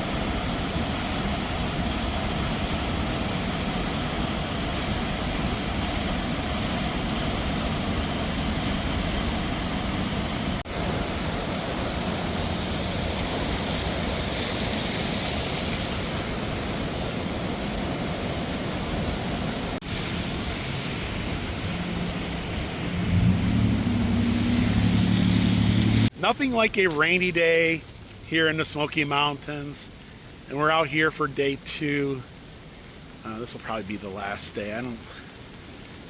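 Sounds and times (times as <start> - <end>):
flooded river rushing: 0.0 - 36.0.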